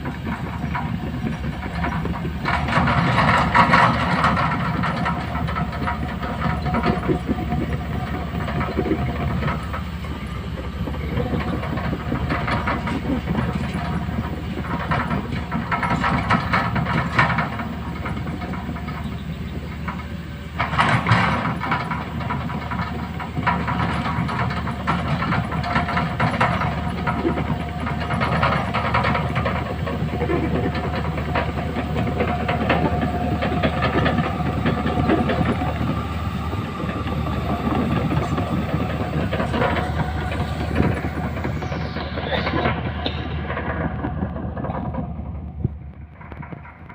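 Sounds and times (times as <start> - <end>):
diesel machinery engine din: 0.0 - 46.9
metallic clanks: 0.0 - 46.9.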